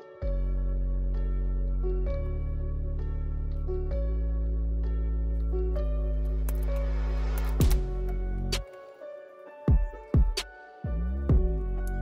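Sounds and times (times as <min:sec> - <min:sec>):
synth and bass notes: 0:00.0 - 0:08.7, 0:09.8 - 0:12.0.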